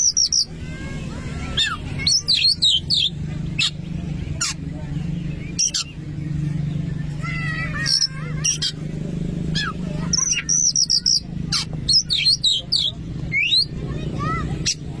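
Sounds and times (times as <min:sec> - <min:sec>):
bird singing with whistled phrases: 0:00.0 - 0:00.7, 0:01.3 - 0:08.9, 0:09.5 - 0:14.0.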